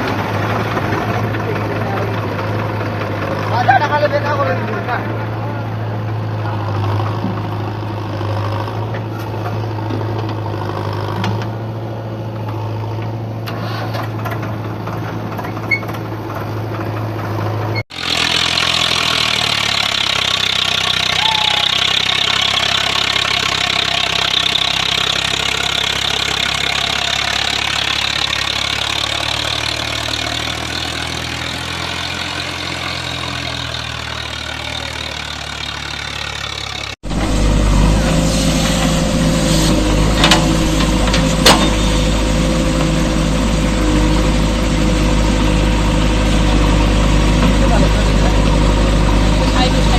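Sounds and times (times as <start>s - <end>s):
tractor engine droning: 0.0s - 49.9s.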